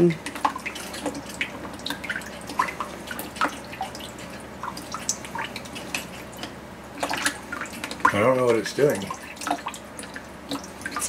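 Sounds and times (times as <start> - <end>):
water drips and plinks: 0.0 - 11.0
water trickling into bucket: 0.0 - 11.0.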